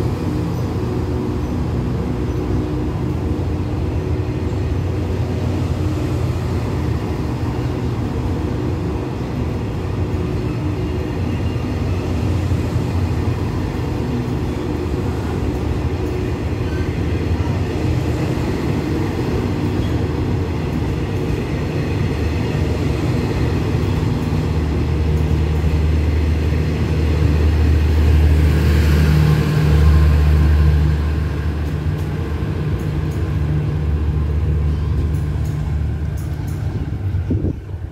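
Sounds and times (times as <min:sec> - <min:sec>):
large engine droning: 0:00.0 - 0:37.9.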